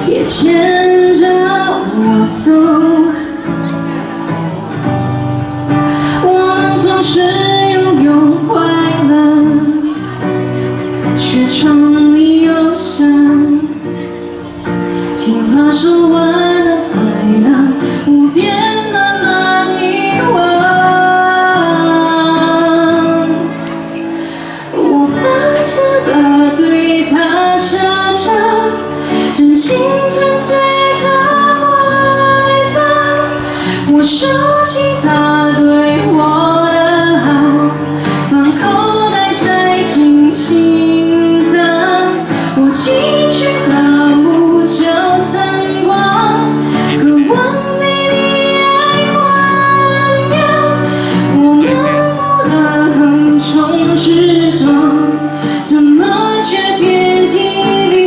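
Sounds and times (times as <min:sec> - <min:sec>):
instrumental backing: 0:00.0 - 0:58.0
woman singing pop song: 0:00.0 - 0:58.0.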